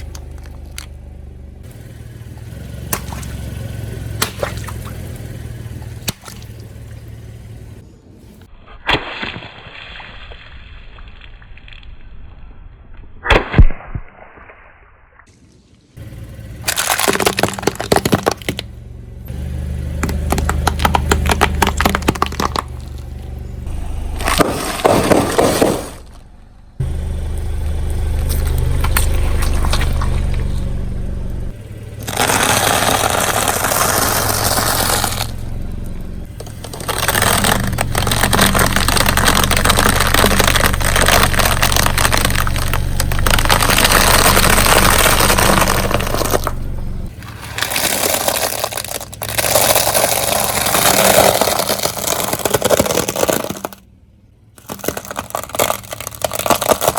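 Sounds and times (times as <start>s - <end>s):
car engine humming: 0.0s - 8.5s, 16.0s - 56.9s
car tyres crushing objects: 0.0s - 12.3s, 16.0s - 56.9s.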